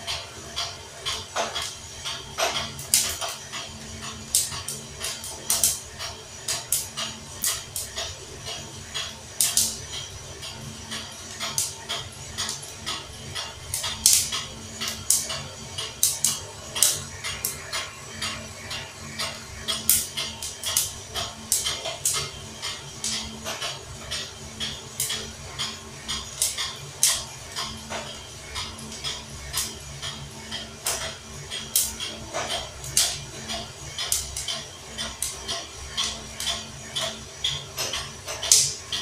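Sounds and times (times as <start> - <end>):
coffee beans clicking in drum: 0.0 - 39.0
steady low hum: 0.0 - 39.0.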